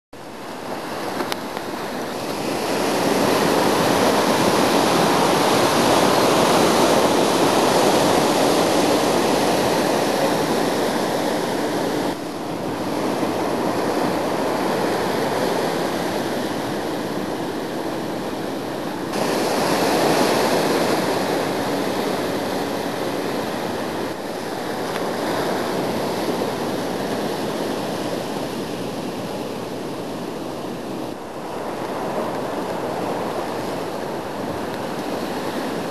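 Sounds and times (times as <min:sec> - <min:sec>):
ocean waves breaking: 0:00.2 - 0:35.9.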